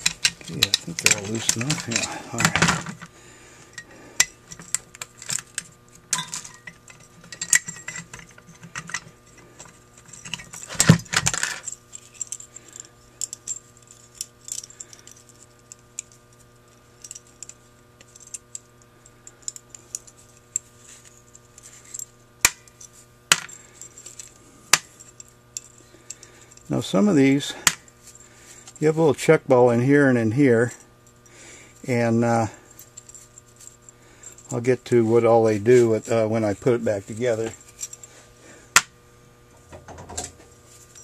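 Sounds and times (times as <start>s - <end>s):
metal parts clicking and clinking: 0.0s - 3.1s, 3.7s - 28.9s, 31.8s - 38.1s, 39.9s - 41.0s
faint steady hum: 0.0s - 41.0s.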